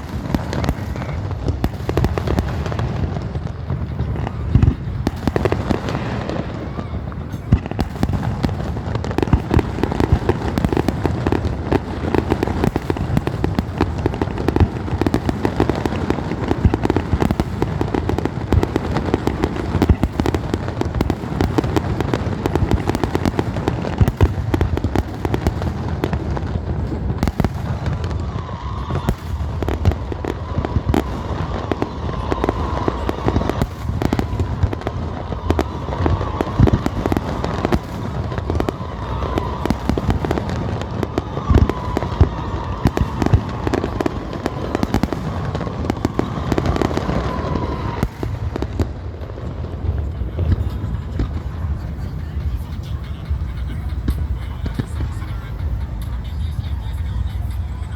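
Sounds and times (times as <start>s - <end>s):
fireworks bangs and crackling: 0.0s - 57.9s.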